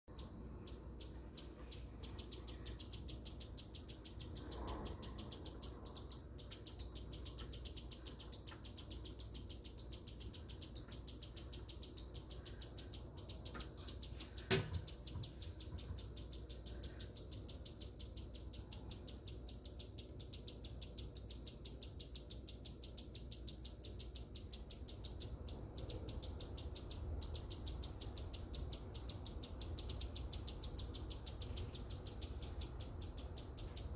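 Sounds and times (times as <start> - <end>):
hummingbird chipping: 0.1 - 33.9.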